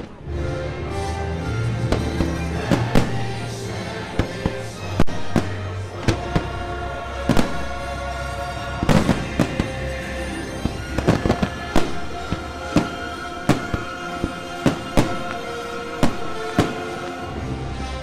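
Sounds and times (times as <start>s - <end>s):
fireworks bursting: 0.0s - 0.3s, 0.9s - 18.0s
music: 0.0s - 18.0s.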